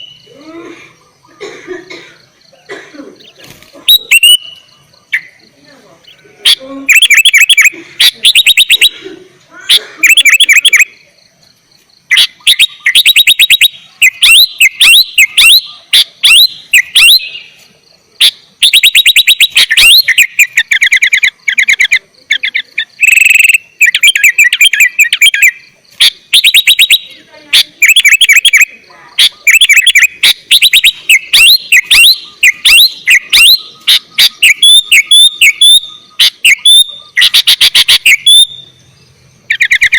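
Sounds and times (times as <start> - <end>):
bulbul singing chattering phrases: 0.0 - 39.9.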